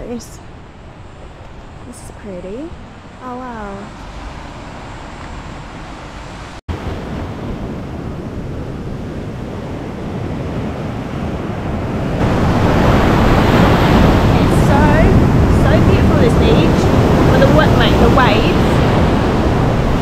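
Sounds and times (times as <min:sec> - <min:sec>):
wind buffeting microphone: 0:00.0 - 0:20.0
ocean surf breaking: 0:00.4 - 0:20.0.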